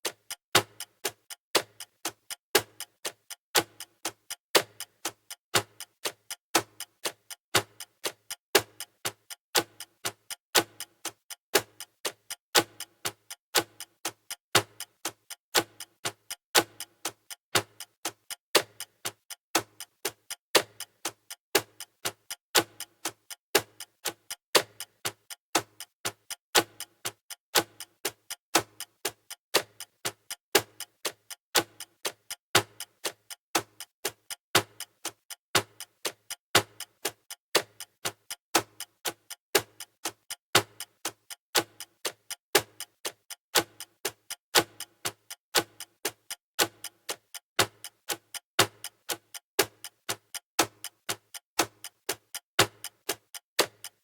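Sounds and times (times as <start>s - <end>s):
countdown timer ticking: 0.1s - 54.0s.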